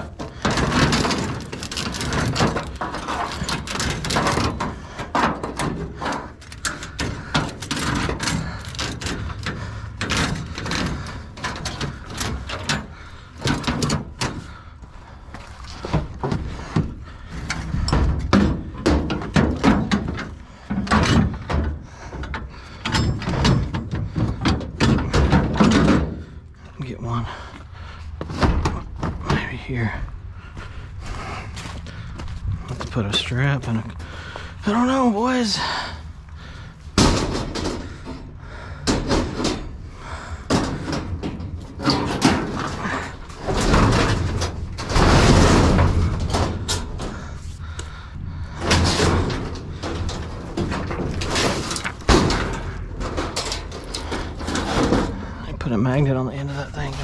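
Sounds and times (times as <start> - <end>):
scrap items knocking and clattering: 0.0 - 14.7, 15.4 - 27.0, 36.5 - 56.0.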